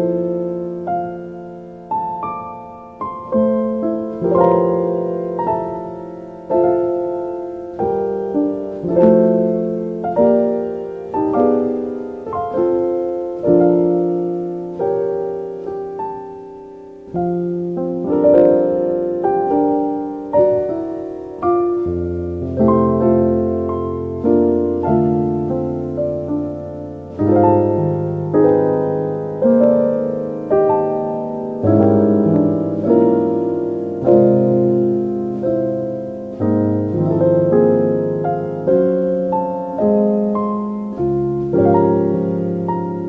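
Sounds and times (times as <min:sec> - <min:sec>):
slow piano music: 0:00.0 - 0:43.0.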